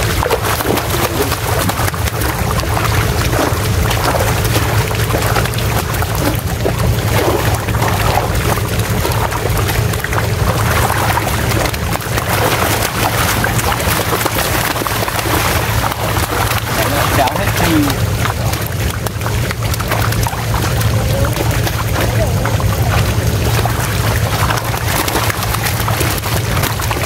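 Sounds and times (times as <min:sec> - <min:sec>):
fish thrashing and splashing: 0:00.0 - 0:27.0
steady low drone: 0:00.0 - 0:27.0
water slapping: 0:00.0 - 0:27.0.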